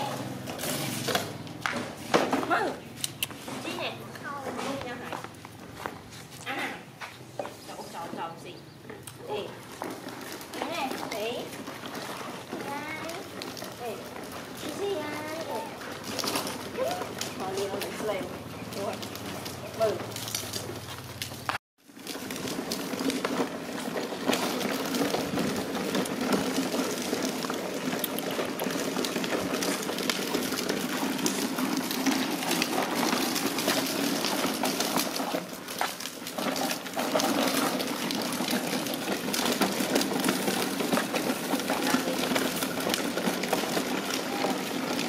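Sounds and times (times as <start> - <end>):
plastic wheels rolling on concrete: 0.0 - 45.0.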